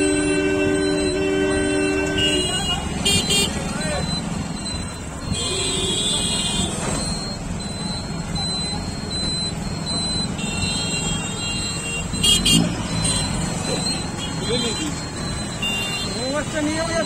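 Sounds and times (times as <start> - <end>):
high tone: 0.0 - 17.0
motorcycle and car engines: 0.0 - 17.0
short high beeps: 0.0 - 17.0.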